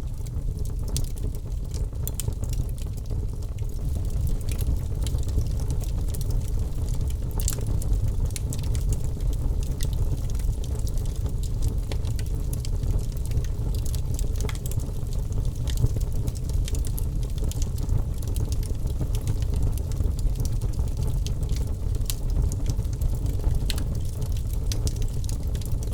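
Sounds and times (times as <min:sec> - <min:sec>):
low fire rumble: 0:00.0 - 0:25.9
campfire crackling and popping: 0:00.2 - 0:25.9.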